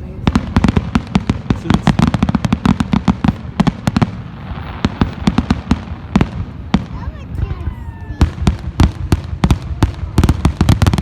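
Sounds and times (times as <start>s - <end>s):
fireworks cracking and booming: 0.0s - 11.0s.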